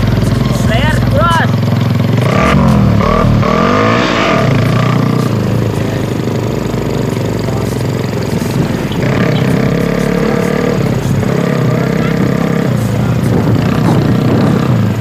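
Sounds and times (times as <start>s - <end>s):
motorcycle engine running: 0.0s - 15.0s
steady tone: 0.0s - 15.0s.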